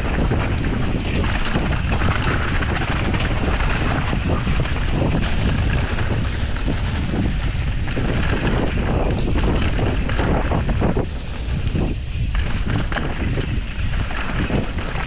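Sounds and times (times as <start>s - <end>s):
bike rattling: 0.0s - 15.0s
tyres rolling over dirt and stones: 0.0s - 15.0s
wind buffeting microphone: 0.0s - 15.0s.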